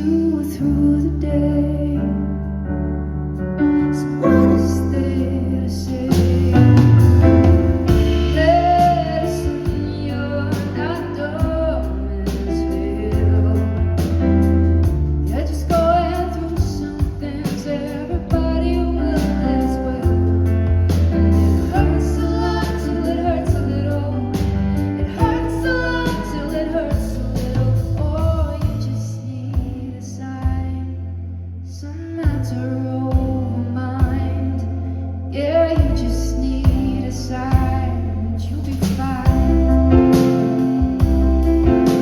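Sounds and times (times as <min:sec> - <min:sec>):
woman singing slow melody: 0:00.0 - 0:02.5, 0:03.9 - 0:20.5, 0:21.2 - 0:42.0
sustained chords and bass: 0:00.0 - 0:31.7, 0:32.3 - 0:42.0.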